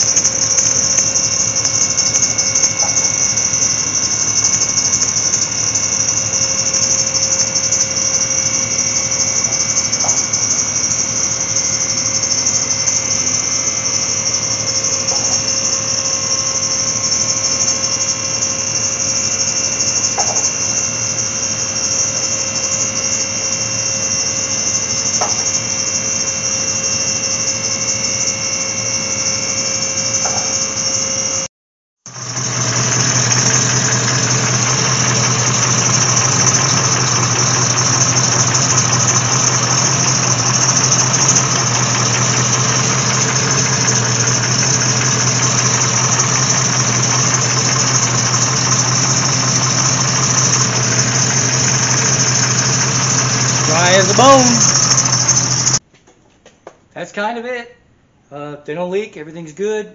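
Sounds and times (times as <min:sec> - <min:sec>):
car engine idling: 0:00.0 - 0:31.4, 0:32.1 - 0:55.8.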